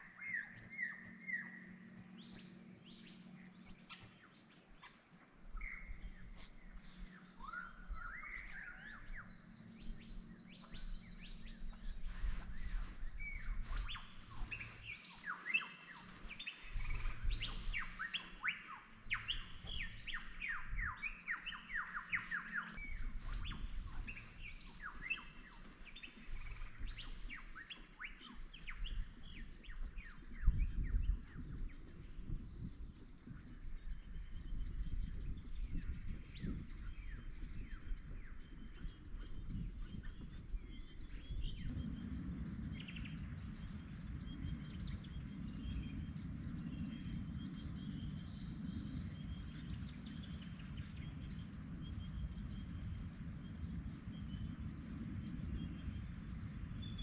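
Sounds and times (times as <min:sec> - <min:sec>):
birds chirping and singing: 0:00.0 - 0:57.0
wind rumble on microphone: 0:00.0 - 0:57.0.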